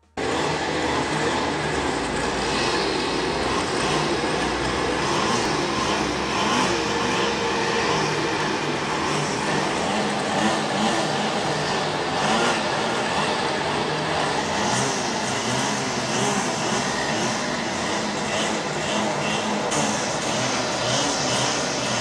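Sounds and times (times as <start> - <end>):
brush cutter engine running: 0.1 - 22.0.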